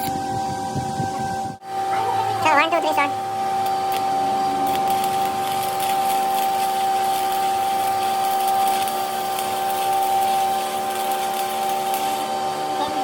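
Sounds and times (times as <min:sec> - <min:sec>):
workshop machine whining: 0:00.0 - 0:13.0.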